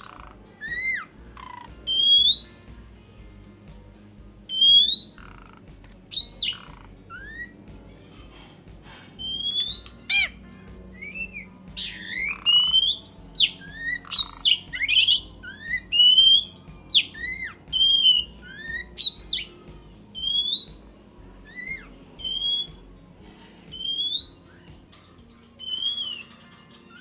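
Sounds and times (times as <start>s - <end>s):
bird squawks: 0.0s - 2.6s, 4.5s - 10.4s, 11.0s - 19.6s, 20.2s - 20.8s, 21.4s - 22.8s, 23.7s - 27.0s
birds singing and calling: 0.0s - 27.0s.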